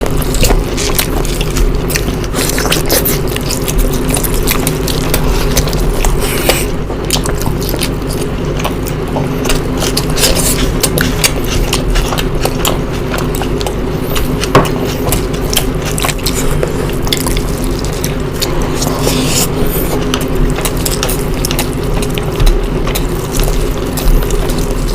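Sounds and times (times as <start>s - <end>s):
wet chewing and mouth-smacking: 0.0s - 24.9s.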